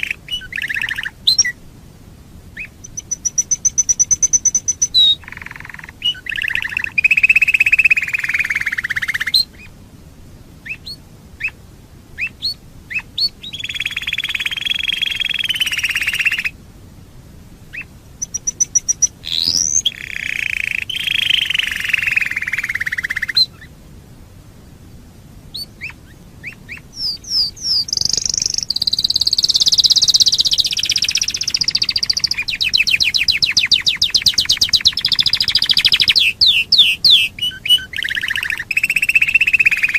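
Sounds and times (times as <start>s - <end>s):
canary singing: 0.0s - 1.6s, 2.6s - 9.8s, 10.6s - 11.6s, 12.2s - 16.6s, 17.7s - 23.7s, 25.5s - 39.9s.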